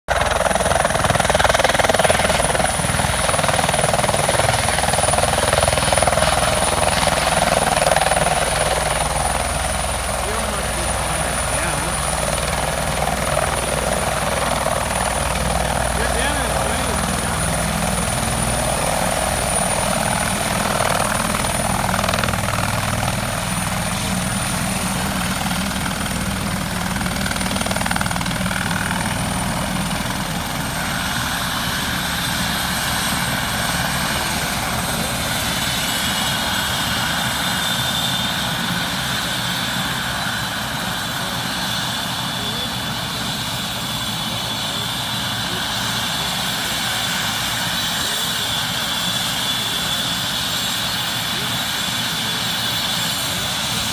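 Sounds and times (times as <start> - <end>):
helicopter rotor turning: 0.1 - 53.9
helicopter turbine whine: 0.1 - 53.9.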